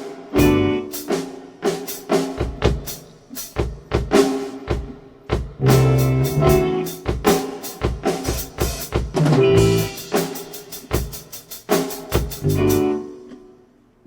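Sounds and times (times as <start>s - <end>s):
drum kit hits: 0.0s - 13.1s
live rock band playing: 0.0s - 13.4s.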